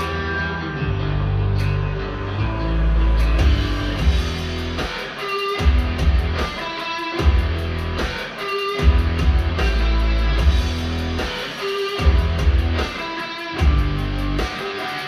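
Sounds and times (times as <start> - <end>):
guitar-led music with bass and beat: 0.0 - 15.0.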